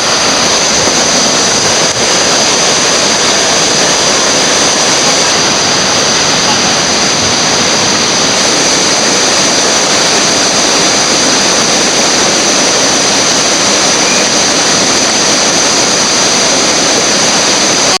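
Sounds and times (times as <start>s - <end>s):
whitewater rushing: 0.0s - 18.0s.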